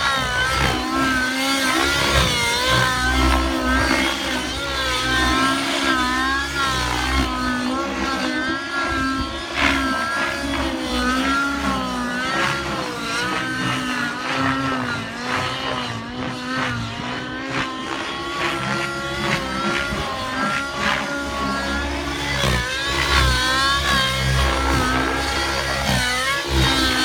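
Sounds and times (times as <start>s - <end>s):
model helicopter engine and rotors: 0.0s - 27.0s.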